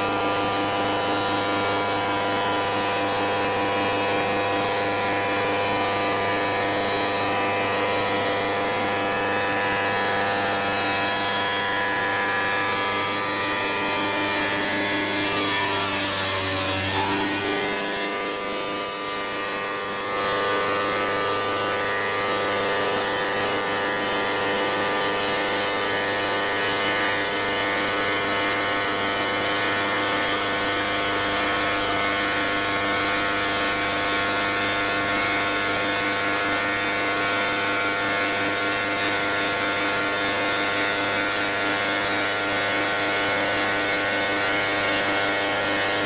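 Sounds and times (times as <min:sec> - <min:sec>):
stone router machine hum: 0:00.0 - 0:46.0.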